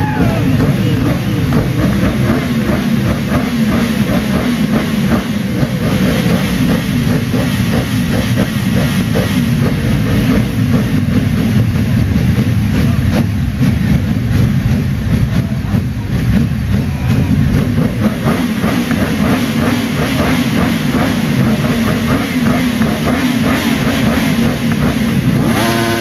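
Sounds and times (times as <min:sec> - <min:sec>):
motorcycle engine running loud: 0:00.0 - 0:26.0.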